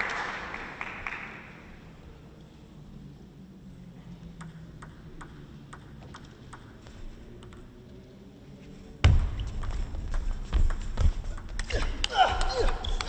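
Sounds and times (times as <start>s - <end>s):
faint hall hum: 0.0s - 13.0s.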